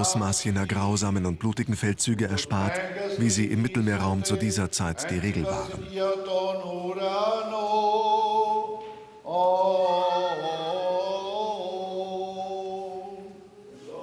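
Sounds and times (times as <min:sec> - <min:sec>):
liturgical chanting: 0:00.0 - 0:14.0.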